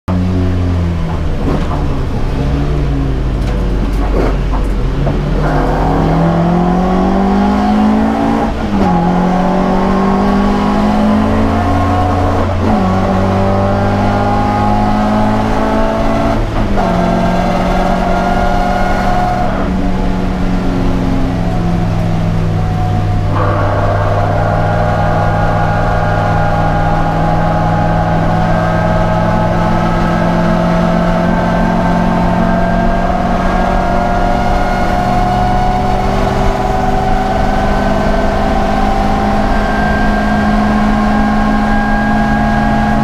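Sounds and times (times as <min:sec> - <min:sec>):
racing car engine revving: 0:00.1 - 0:43.0.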